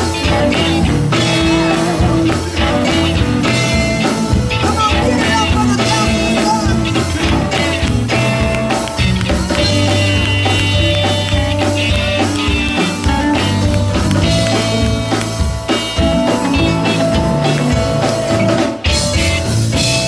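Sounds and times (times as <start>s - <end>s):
drum kit: 0.0s - 20.0s
live band playing: 0.0s - 20.0s.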